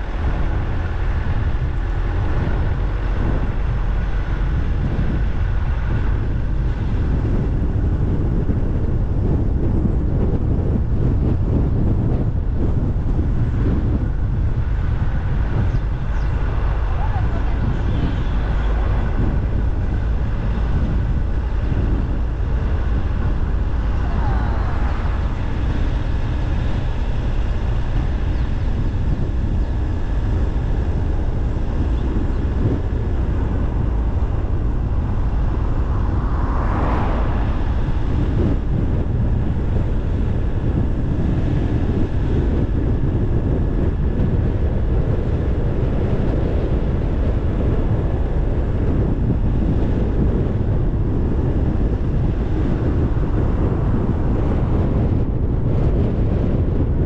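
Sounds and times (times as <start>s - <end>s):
car road and wind rumble: 0.0s - 57.0s.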